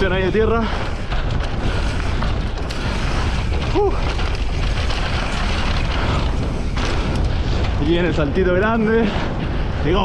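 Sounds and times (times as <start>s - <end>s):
tyres rolling on dirt: 0.0s - 10.0s
wind buffeting microphone: 0.0s - 10.0s.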